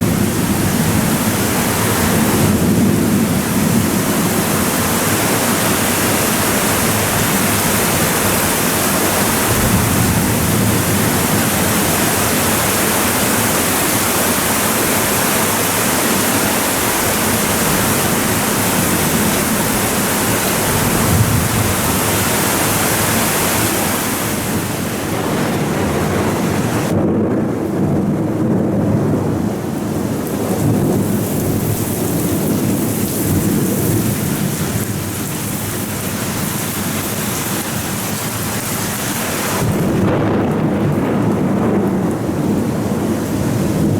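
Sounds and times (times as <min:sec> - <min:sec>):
torrential rain hiss: 0:00.0 - 0:26.9, 0:28.0 - 0:43.9
thunder rumbles: 0:00.0 - 0:43.9.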